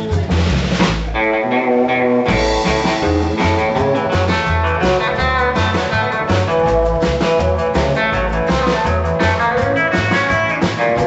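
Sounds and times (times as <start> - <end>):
guitar lines: 0.0 - 11.0
steady bass line: 0.0 - 11.0.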